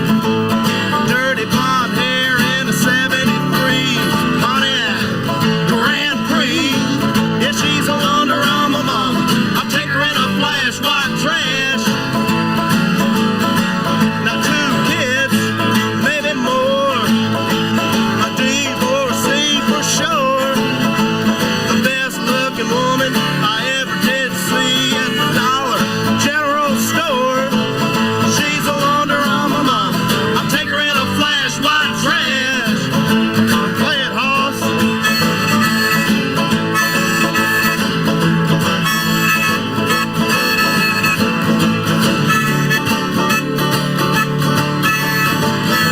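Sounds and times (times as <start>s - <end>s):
acoustic bluegrass band playing: 0.0s - 45.9s.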